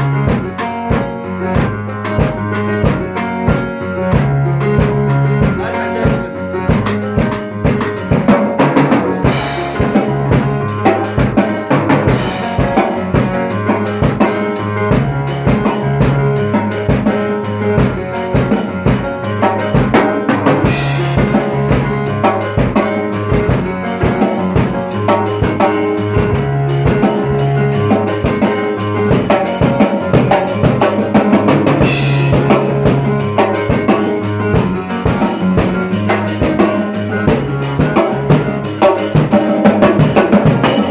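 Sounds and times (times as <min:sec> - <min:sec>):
drum beat: 0:00.0 - 0:40.9
sustained bass notes: 0:00.0 - 0:40.9.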